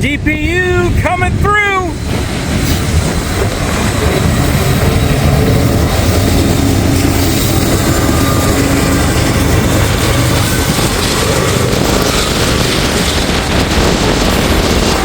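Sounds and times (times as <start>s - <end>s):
diesel locomotives rumbling: 0.0s - 15.0s
freight train passing: 0.0s - 15.0s
wind buffeting microphone: 0.0s - 15.0s.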